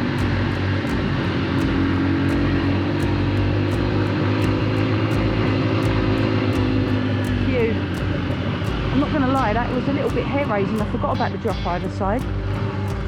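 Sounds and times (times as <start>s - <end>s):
motorcycle engine pulling uphill: 0.0s - 13.0s.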